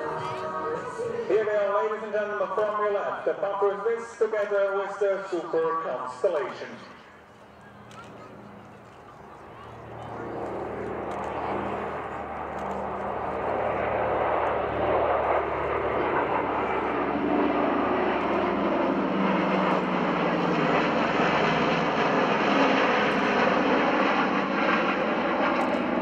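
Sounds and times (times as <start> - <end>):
aircraft flypast drone: 0.0 - 26.0.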